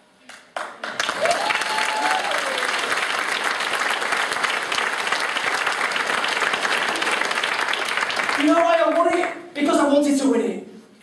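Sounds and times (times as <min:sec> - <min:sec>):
audience applauding: 0:00.3 - 0:09.4.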